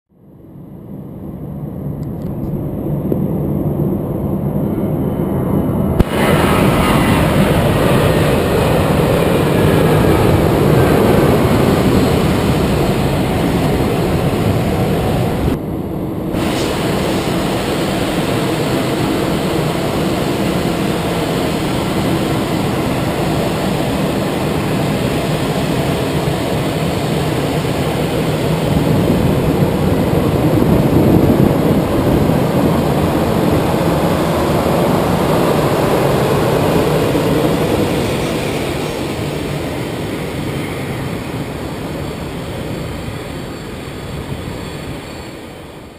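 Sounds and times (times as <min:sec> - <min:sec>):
jet aircraft engines rumbling: 0:00.2 - 0:45.9.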